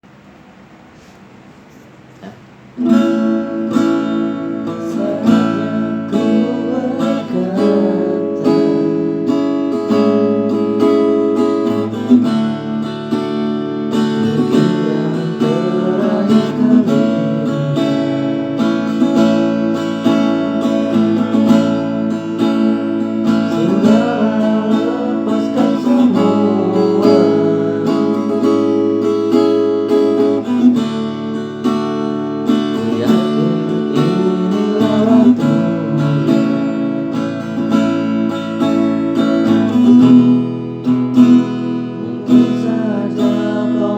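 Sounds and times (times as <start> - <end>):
strummed guitar music: 2.8 - 43.9.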